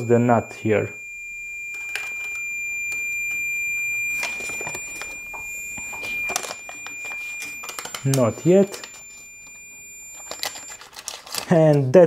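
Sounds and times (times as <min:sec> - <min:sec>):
multimeter continuity beep: 0:00.0 - 0:11.0.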